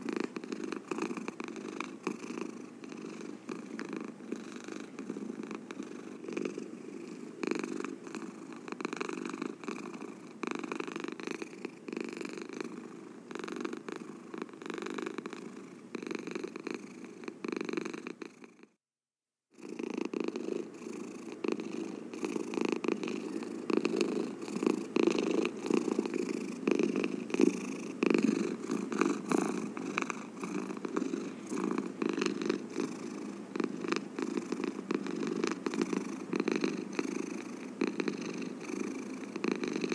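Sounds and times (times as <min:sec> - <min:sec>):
cat purring: 0:00.0 - 0:18.8, 0:19.5 - 0:39.9.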